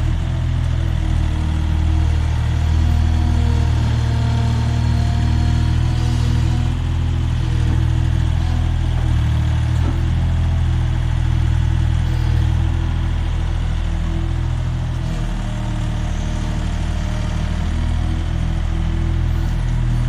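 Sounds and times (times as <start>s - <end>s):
mini loader engine running: 0.0s - 20.0s.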